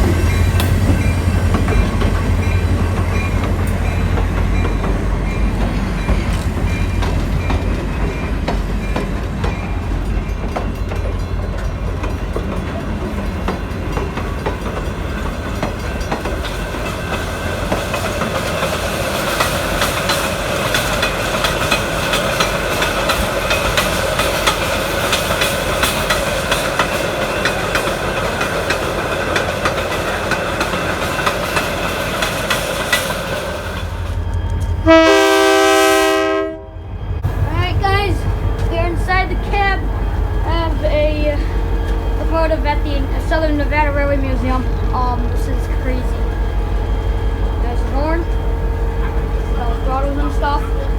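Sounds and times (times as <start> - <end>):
wheels clicking on rails: 0.0 - 35.0, 37.2 - 50.9
train rumbling on track: 0.0 - 50.9.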